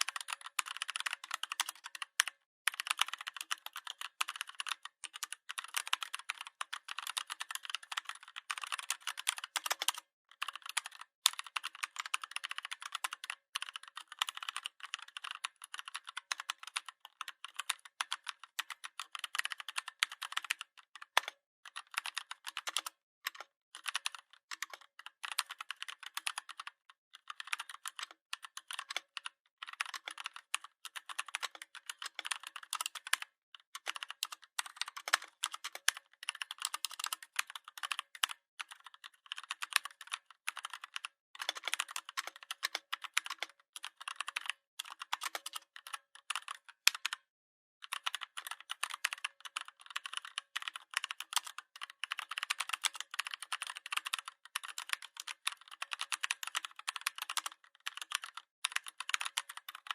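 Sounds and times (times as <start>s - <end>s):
fast typing on keyboard: 0.0s - 59.9s.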